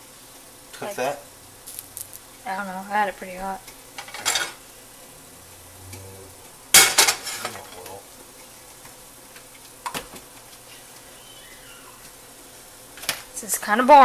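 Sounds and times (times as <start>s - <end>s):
faint frying in a pan: 0.0s - 14.0s.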